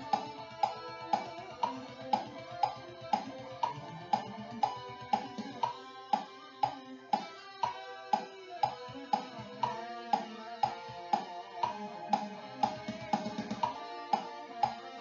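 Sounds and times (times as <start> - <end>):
drum hits in steady beat: 0.0 - 14.8
electric guitar playing: 0.0 - 15.0.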